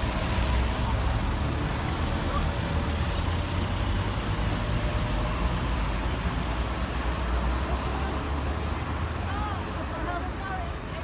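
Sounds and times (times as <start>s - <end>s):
rumble of passing cars: 0.0s - 11.0s.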